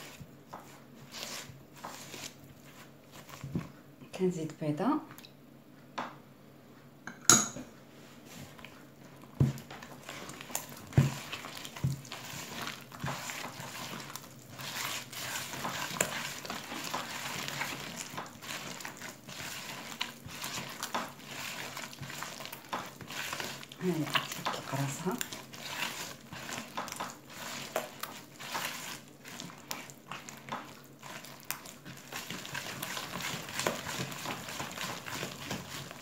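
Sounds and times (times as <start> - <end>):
hand mixing in a plastic bowl: 0.0 - 5.0, 7.8 - 36.0.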